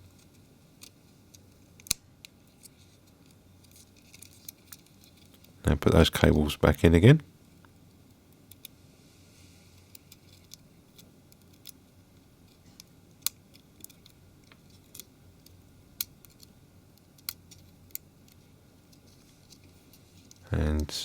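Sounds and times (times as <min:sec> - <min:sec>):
small sharp clicks and ticks: 0:00.1 - 0:05.6, 0:07.6 - 0:08.8, 0:09.8 - 0:20.4.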